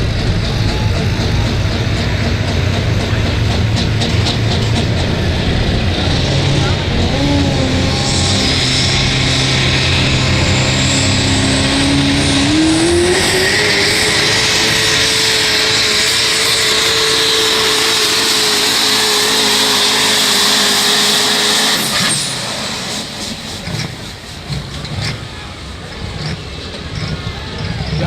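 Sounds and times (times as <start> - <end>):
diesel truck engine at full throttle: 0.0 - 28.0.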